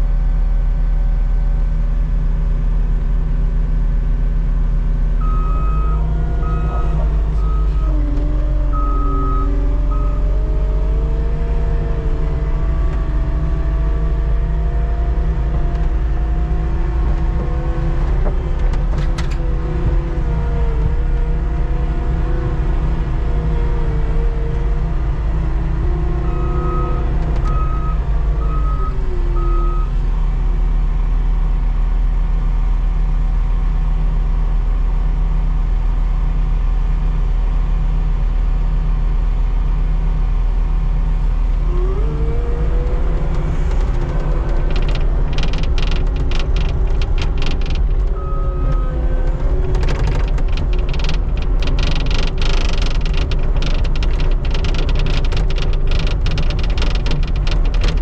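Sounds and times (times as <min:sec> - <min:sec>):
skid steer engine and hydraulics: 0:00.0 - 0:58.0.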